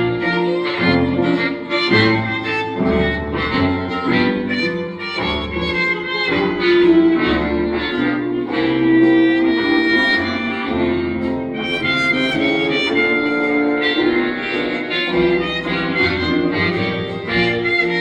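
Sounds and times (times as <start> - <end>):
old-time jazz music: 0.0 - 18.0.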